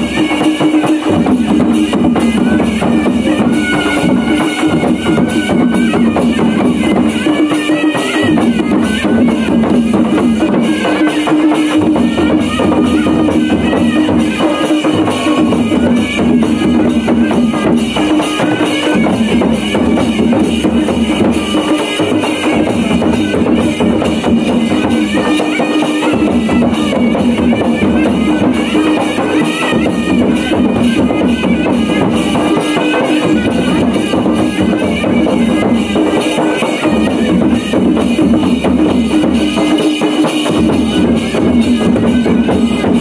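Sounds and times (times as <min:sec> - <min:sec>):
hand drums beating: 0:00.0 - 0:43.0
reed wind instrument melody: 0:00.0 - 0:43.0.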